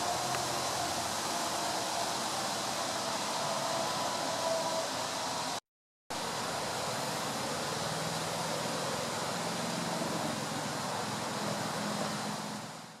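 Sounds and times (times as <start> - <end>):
even hiss: 0.0 - 13.0.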